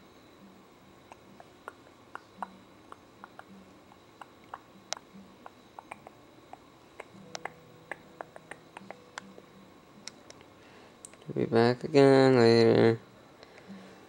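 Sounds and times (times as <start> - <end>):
quiet low hum: 0.0 - 14.0.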